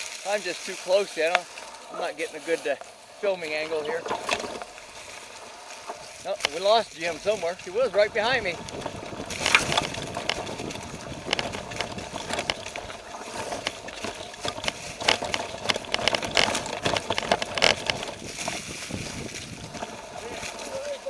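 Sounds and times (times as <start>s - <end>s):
bike clicks and rattles: 0.0s - 21.0s
tyres crunching through dry leaves: 0.0s - 21.0s.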